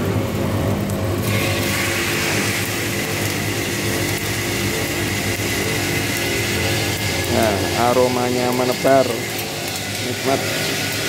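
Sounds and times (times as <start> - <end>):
roaster motor hum: 0.0 - 11.0
roasted beans pouring rattle: 1.2 - 11.0.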